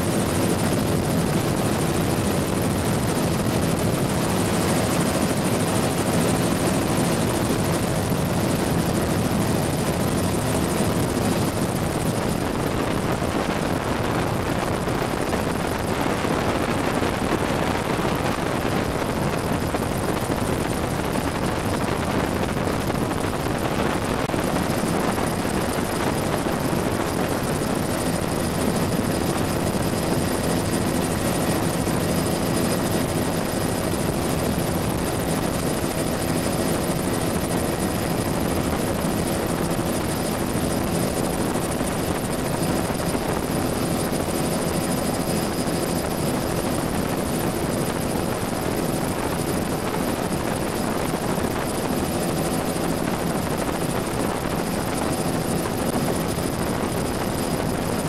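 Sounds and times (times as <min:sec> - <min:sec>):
helicopter turbine and rotor drone: 0:00.0 - 0:58.0.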